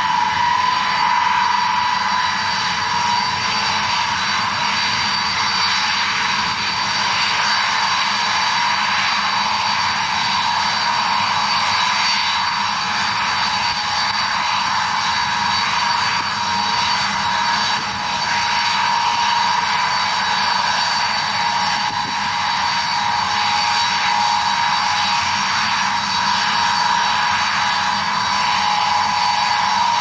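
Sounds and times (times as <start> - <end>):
jet engines whining while taxiing: 0.0 - 30.0.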